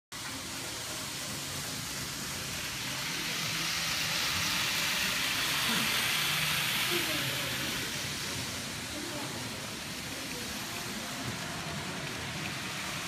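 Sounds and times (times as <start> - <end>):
model trains whirring on track: 0.2 - 13.0.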